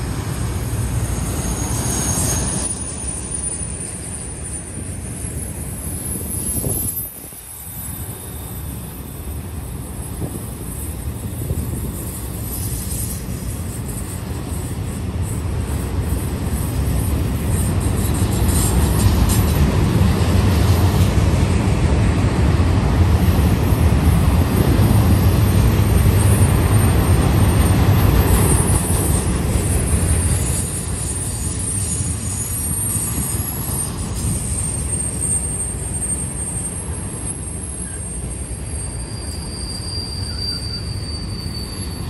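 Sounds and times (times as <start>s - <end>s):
steel wheels rumbling on rails: 0.0s - 42.0s.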